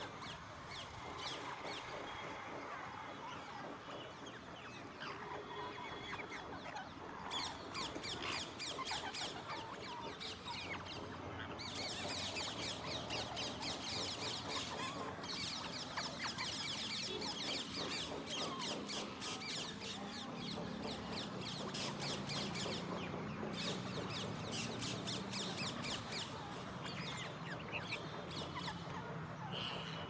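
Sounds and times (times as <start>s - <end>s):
parakeets chattering: 0.0s - 30.0s.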